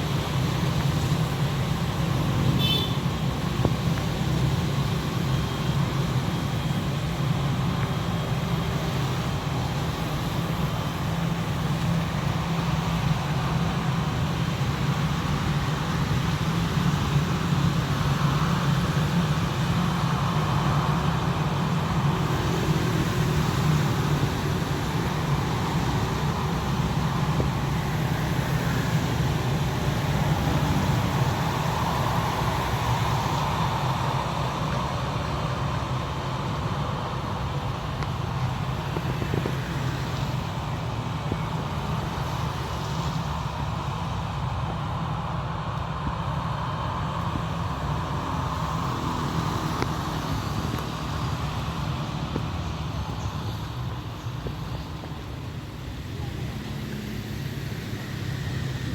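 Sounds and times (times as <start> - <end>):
low rumble of engines: 0.0 - 58.9.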